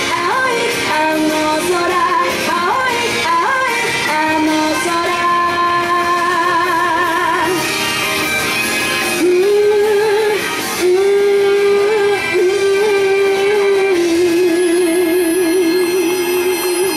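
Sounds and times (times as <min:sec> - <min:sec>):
woman singing with vibrato: 0:00.0 - 0:07.7, 0:09.2 - 0:16.9
instrumental backing music: 0:00.0 - 0:16.9.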